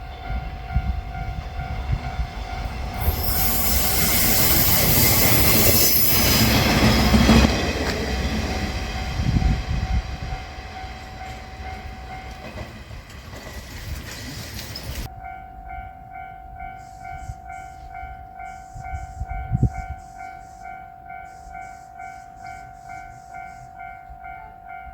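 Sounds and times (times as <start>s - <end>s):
level crossing warning bell: 0.0s - 7.7s, 8.3s - 12.8s, 14.8s - 24.9s
diesel railcar engine and wheels: 0.0s - 24.9s.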